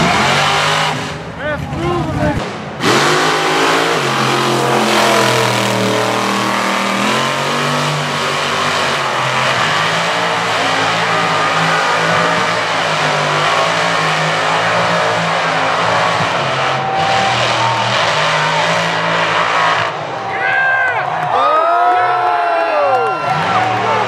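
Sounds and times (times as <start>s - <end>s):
tires churning through mud: 0.0s - 24.0s
truck engine revving hard: 0.0s - 24.0s.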